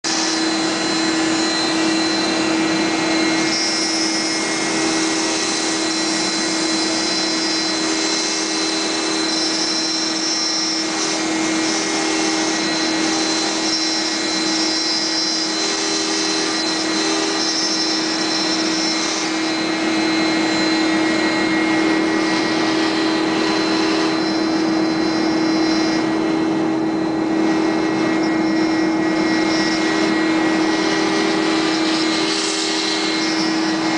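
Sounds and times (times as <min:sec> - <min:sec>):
cnc router running: 0:00.0 - 0:33.9
high machine tones: 0:00.1 - 0:33.9.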